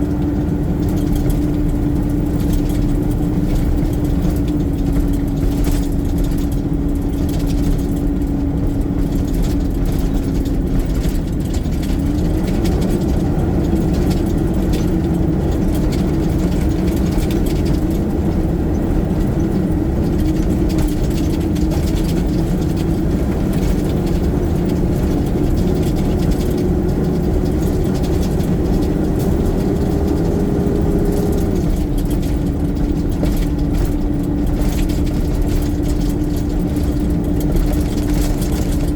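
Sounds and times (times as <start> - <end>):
garbage truck diesel engine running: 0.0 - 38.9.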